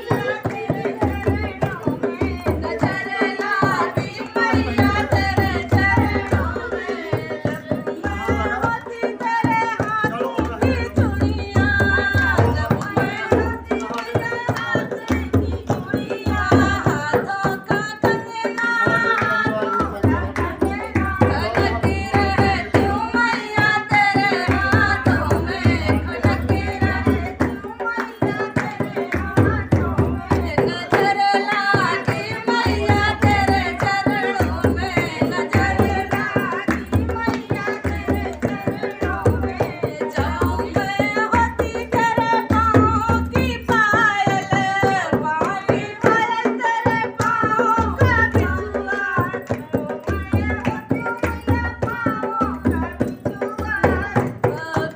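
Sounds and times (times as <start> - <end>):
hand drum rhythm: 0.0 - 54.9
woman singing devotional song: 0.0 - 54.9.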